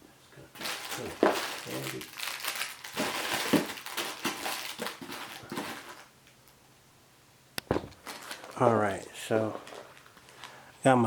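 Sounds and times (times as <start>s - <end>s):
crinkling rustling material: 0.6s - 6.4s, 7.7s - 10.7s.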